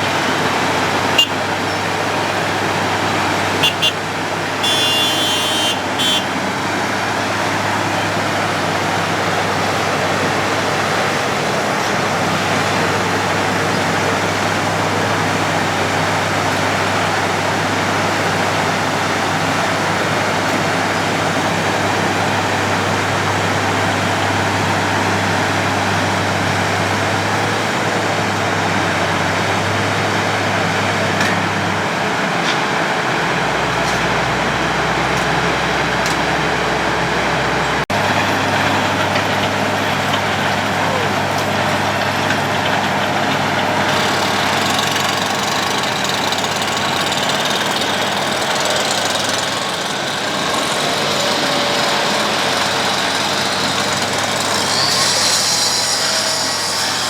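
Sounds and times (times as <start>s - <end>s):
diesel engine hum: 0.0s - 55.0s
milling drum grinding road: 0.0s - 57.0s.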